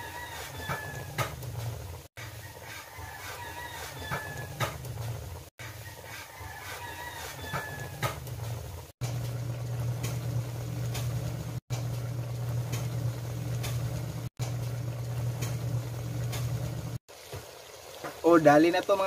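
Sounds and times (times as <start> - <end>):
sauce boiling hard in a wok: 0.0 - 19.0.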